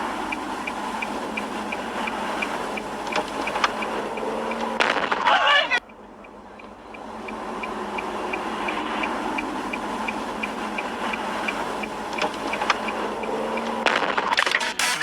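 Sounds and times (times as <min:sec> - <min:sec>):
car turn signal ticking: 0:00.0 - 0:14.0
engine and road noise: 0:00.0 - 0:15.0.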